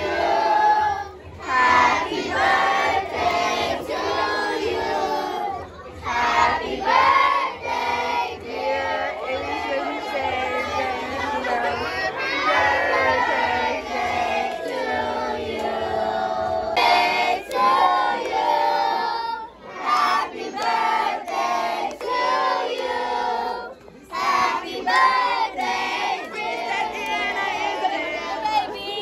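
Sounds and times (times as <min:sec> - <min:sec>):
crowd noise: 0:00.0 - 0:29.0
group singing together: 0:00.0 - 0:29.0.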